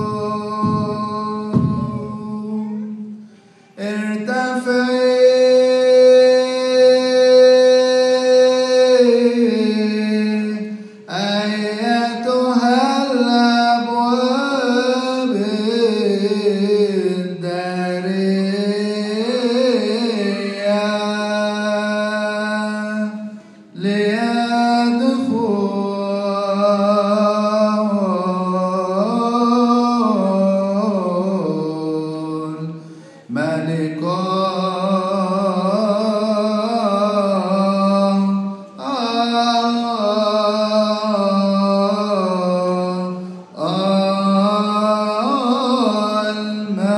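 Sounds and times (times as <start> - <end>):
unaccompanied chanted hymn: 0.0 - 46.9.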